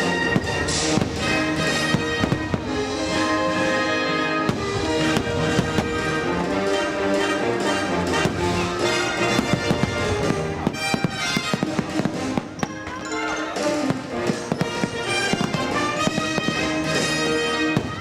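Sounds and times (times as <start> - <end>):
fireworks bursting: 0.0 - 18.0
orchestral music: 0.0 - 18.0.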